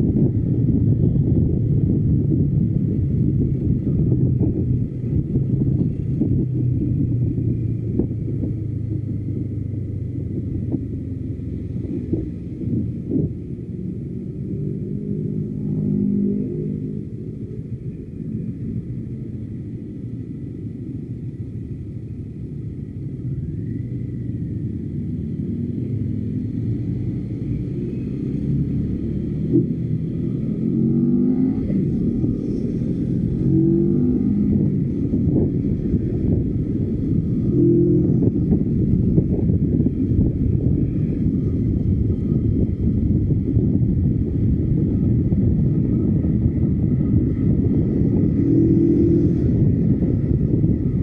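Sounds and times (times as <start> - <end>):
motorcycle engine revving: 2.3 - 19.5, 25.2 - 51.0.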